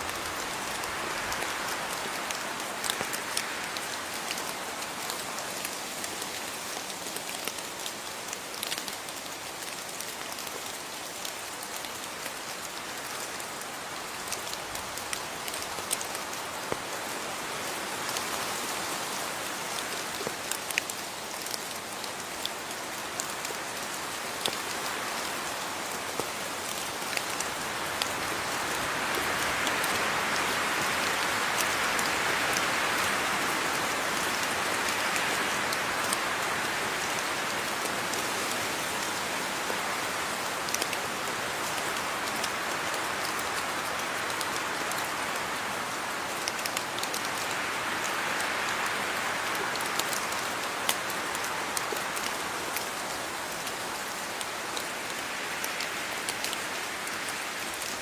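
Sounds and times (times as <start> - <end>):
raindrops ticking on a surface: 0.0 - 58.0
steady rain falling: 0.0 - 58.0.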